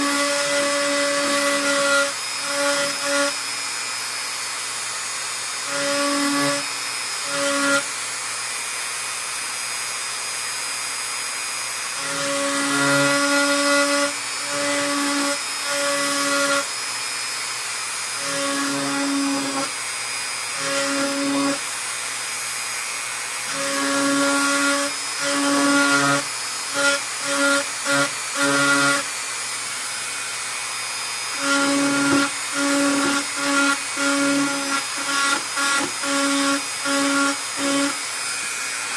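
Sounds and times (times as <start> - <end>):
rotary tool whine: 0.0 - 38.9.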